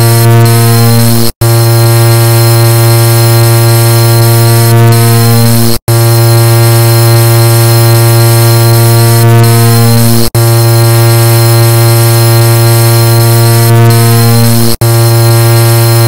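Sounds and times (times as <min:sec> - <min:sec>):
harsh buzzing car horn drone: 0:00.0 - 0:16.0.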